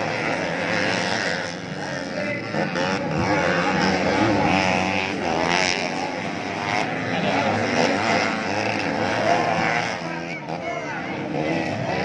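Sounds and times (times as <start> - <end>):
dirt bikes revving: 0.0 - 12.0.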